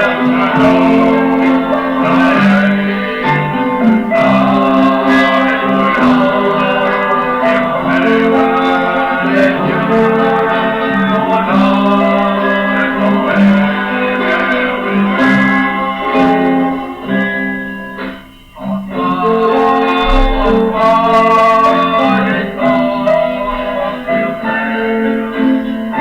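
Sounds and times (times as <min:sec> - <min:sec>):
guitar: 0:00.0 - 0:26.0
voices singing: 0:00.0 - 0:26.0.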